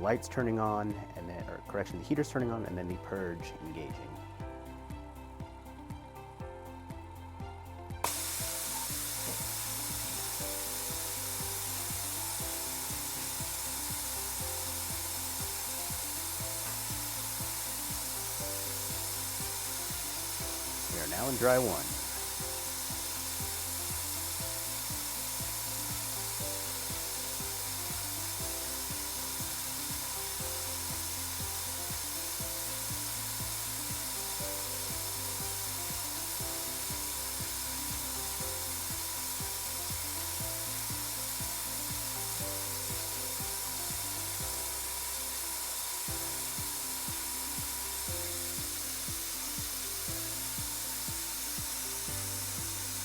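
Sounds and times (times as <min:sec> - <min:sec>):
spin dryer rotor hissing: 0:00.0 - 0:53.0.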